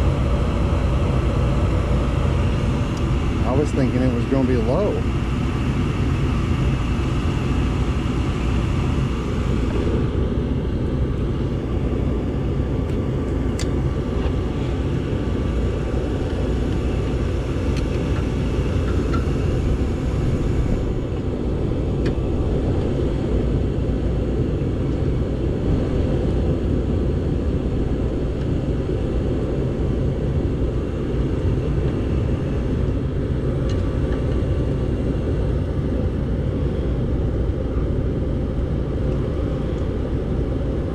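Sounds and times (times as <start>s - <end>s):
faint whine: 0.0s - 40.9s
gas furnace rumbling: 0.0s - 40.9s.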